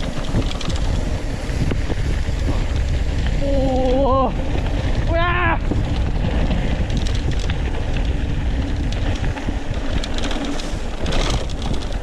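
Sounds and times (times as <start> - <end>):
faint motorcycle engine hum: 0.0 - 12.0
wind buffeting microphone: 0.0 - 12.0.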